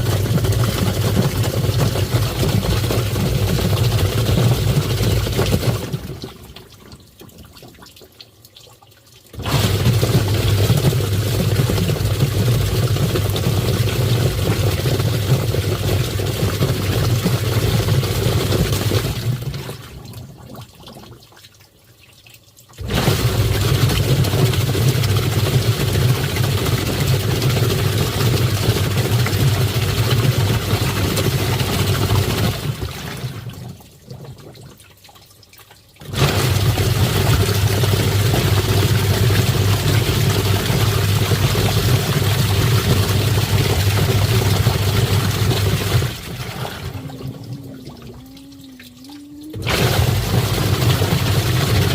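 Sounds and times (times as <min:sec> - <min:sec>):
washing machine churning water: 0:00.0 - 0:51.9.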